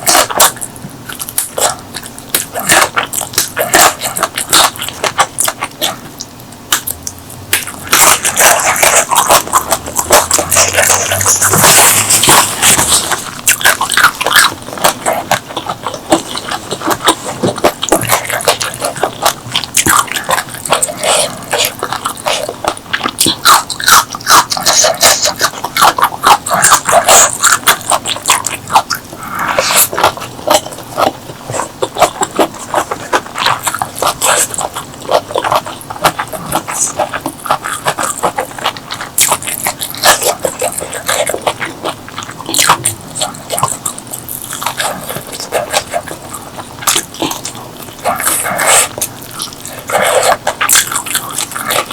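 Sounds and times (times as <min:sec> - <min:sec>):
wet chewing and mouth smacking: 0:00.0 - 0:51.9.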